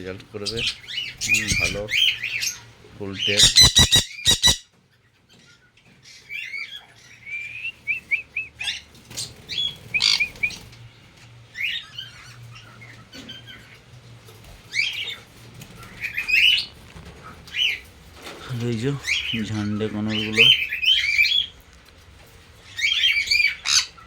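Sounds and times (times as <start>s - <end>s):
parrots chirping and squawking: 0.3s - 7.6s, 8.6s - 21.6s, 22.2s - 24.0s.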